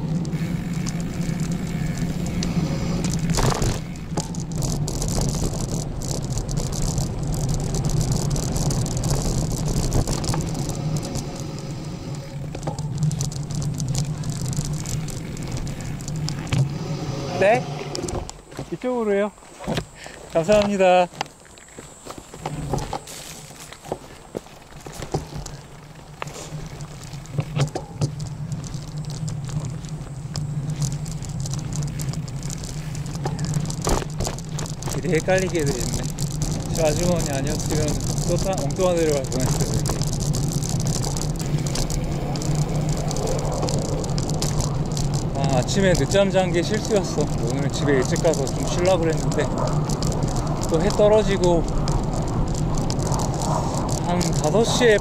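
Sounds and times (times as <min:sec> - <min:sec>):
bicycle rattling clicks: 0:00.0 - 0:55.0
bicycle rolling hum: 0:00.0 - 0:55.0.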